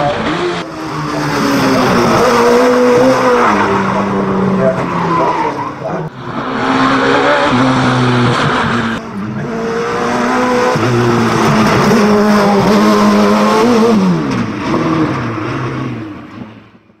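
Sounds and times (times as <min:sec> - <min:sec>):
race car engine at high revs: 0:00.0 - 0:16.8.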